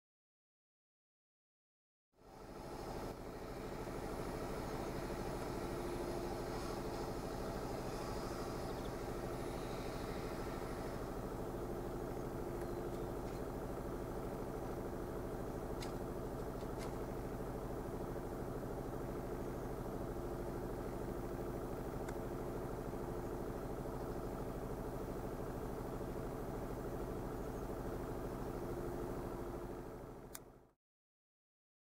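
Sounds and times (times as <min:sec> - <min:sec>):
vehicle engine idling: 0:02.2 - 0:30.7.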